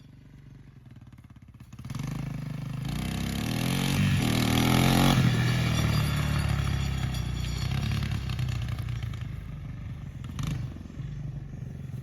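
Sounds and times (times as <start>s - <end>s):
engine revving: 1.6s - 12.0s.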